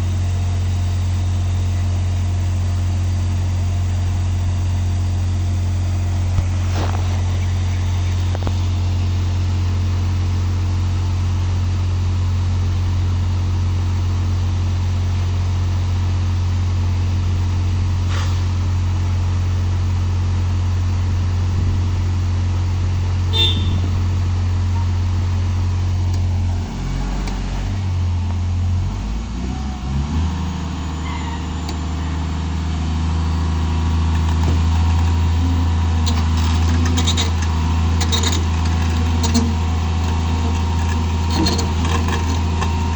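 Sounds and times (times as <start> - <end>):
engine humming: 0.0 - 42.9.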